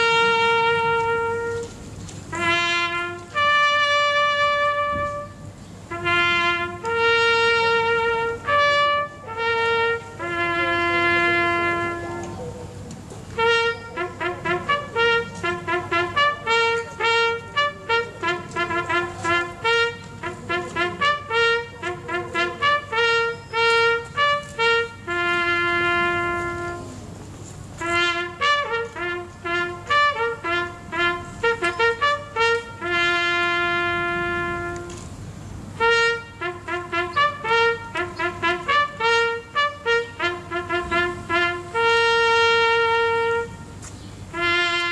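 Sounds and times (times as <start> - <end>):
solo trumpet call: 0.0 - 12.6, 13.3 - 27.2, 27.8 - 44.9.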